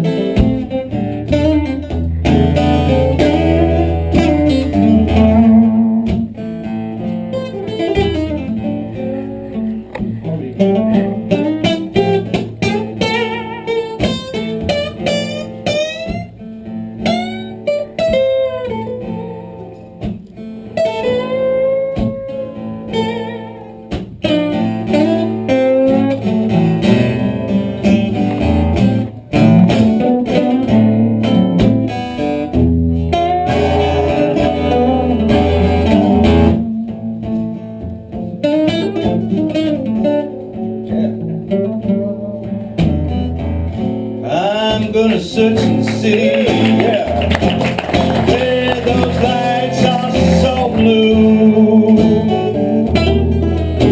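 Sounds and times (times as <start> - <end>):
blues lead guitar bending notes: 0.0 - 53.9
strummed guitar accompaniment: 0.0 - 53.9.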